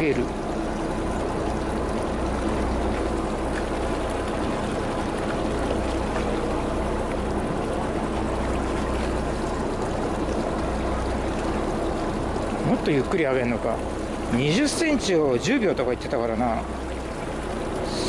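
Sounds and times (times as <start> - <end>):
boat engine humming: 0.0 - 18.0
sea water washing along hull: 0.0 - 18.0.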